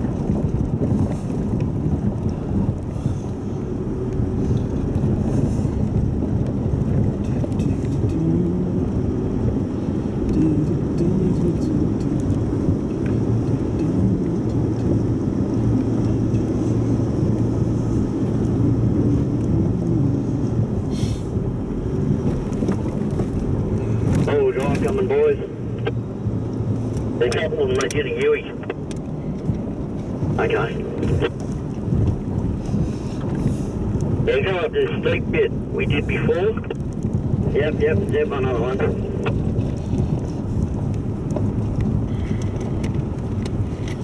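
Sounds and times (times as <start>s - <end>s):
vehicle engine rumble: 0.0s - 44.0s.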